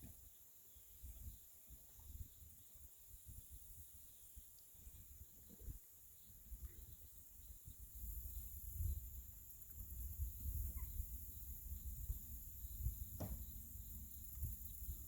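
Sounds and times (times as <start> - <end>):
crickets droning: 0.0 - 15.0
faint chirps: 0.0 - 15.0
wind rumble on microphone: 1.0 - 15.0.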